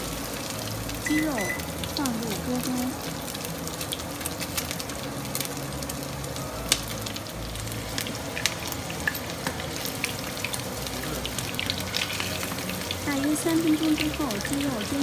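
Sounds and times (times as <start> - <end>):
chicken strips sizzling in oil: 0.0 - 15.0
oil crackling and popping: 0.0 - 15.0.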